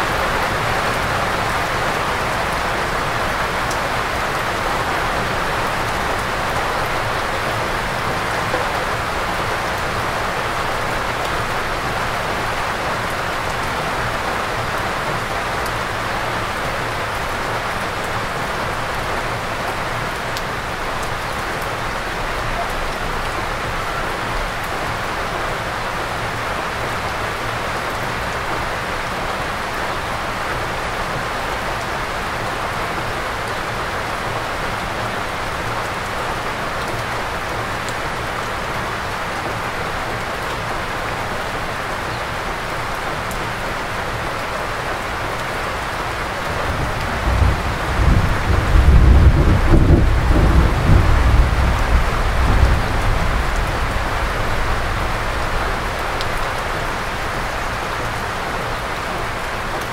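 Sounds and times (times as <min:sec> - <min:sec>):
sharp nearby raindrops: 0:00.0 - 0:59.9
steady rain patter: 0:00.0 - 0:59.9.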